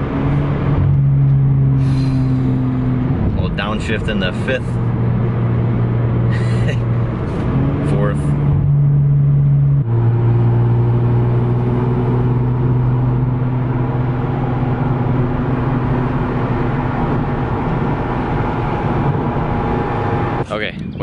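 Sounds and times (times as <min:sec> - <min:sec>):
car exhaust drone from inside: 0:00.0 - 0:20.5.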